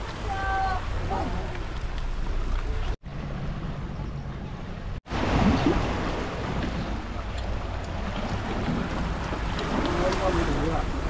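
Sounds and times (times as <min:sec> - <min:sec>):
sea rushing on rocky coast: 0:00.0 - 0:11.0.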